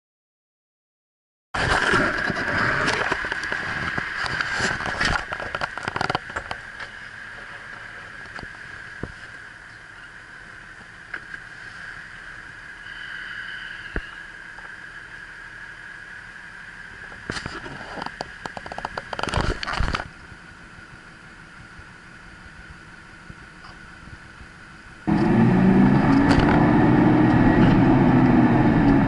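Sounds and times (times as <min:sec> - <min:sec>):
steady cab hum: 0:01.6 - 0:29.0.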